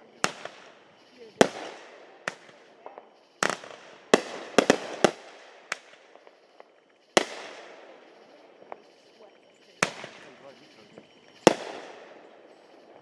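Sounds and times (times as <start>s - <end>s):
fireworks exploding: 0.0s - 13.0s.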